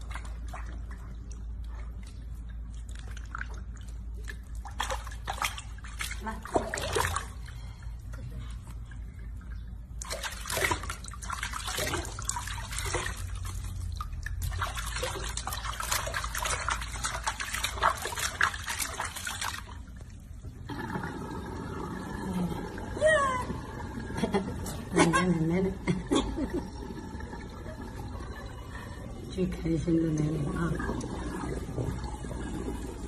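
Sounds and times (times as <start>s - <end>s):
water splashing in a sink: 0.0s - 1.7s, 2.6s - 7.9s, 9.4s - 33.0s.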